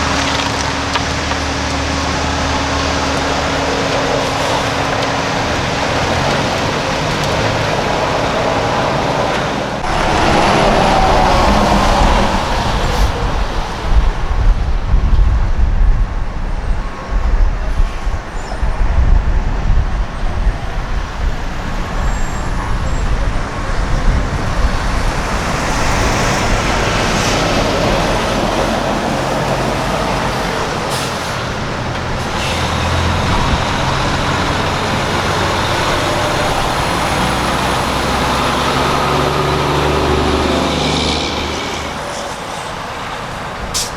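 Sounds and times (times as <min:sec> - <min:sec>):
truck diesel engines running: 0:00.0 - 0:43.9.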